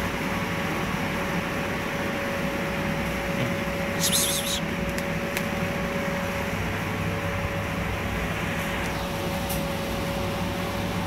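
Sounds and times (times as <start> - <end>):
machine hum with whine: 0.0 - 11.0.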